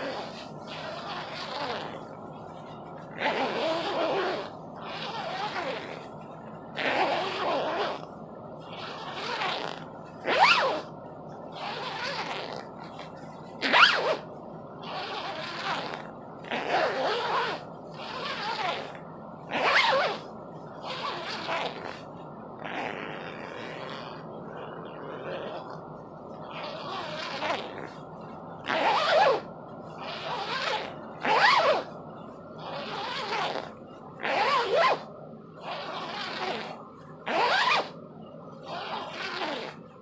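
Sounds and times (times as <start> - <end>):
plastic zipper zipping: 0.0 - 2.0, 3.1 - 6.1, 6.8 - 8.1, 8.7 - 10.9, 11.6 - 14.2, 14.8 - 20.2, 20.8 - 25.8, 26.4 - 28.0, 28.7 - 31.9, 32.6 - 38.0, 38.6 - 39.8.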